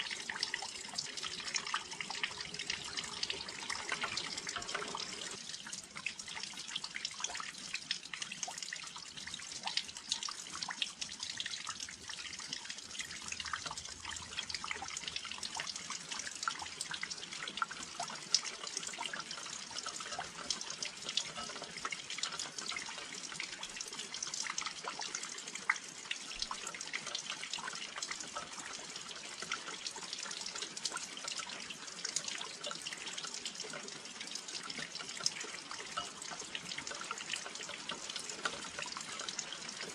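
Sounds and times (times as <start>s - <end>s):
rain drops pattering on windowsill: 0.0s - 39.9s.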